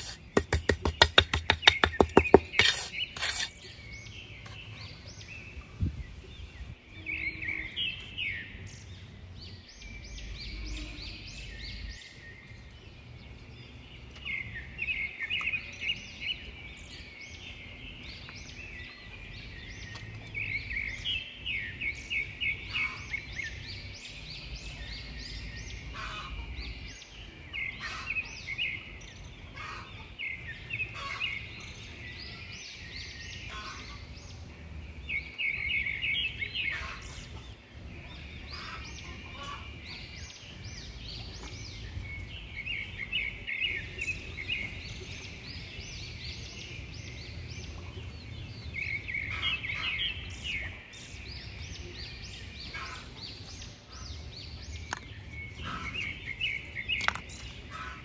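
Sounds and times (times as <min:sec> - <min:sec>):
birds chirping trills: 0:00.0 - 0:58.0.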